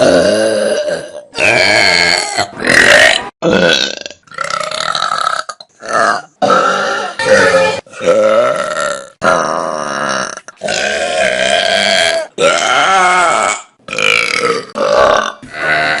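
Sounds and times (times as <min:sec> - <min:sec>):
person burping: 0:00.0 - 0:16.0.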